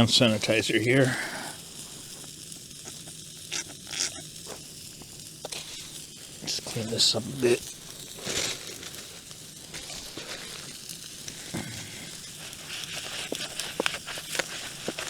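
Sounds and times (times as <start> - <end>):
steak sizzling on grill: 0.0 - 15.0.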